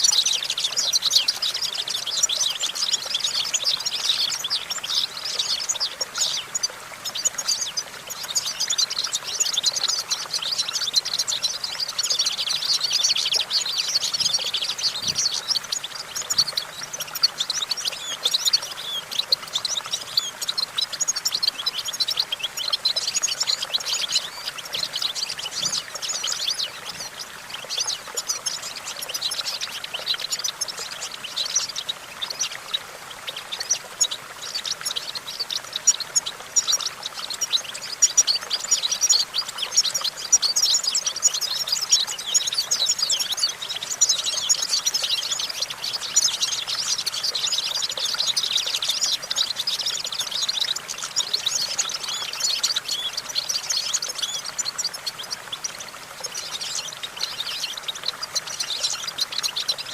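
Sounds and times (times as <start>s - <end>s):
goldfinch singing: 0.0s - 59.9s.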